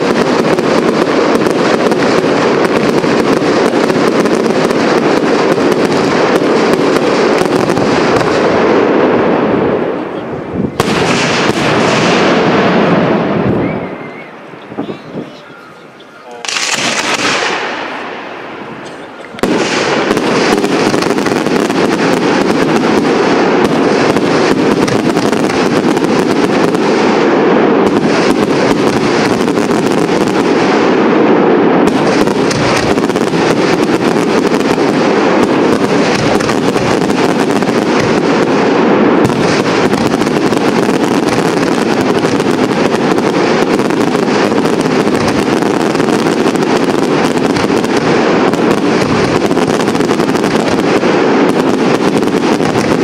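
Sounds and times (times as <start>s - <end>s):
fireworks crackling: 0.0s - 53.0s.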